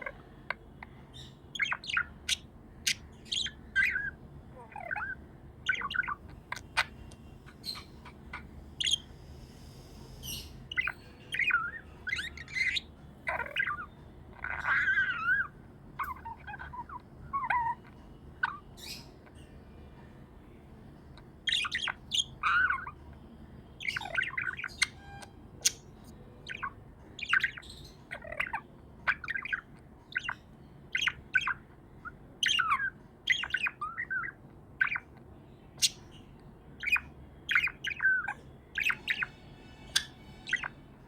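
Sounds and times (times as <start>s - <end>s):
budgerigars chirping: 0.0s - 19.5s, 21.0s - 41.0s.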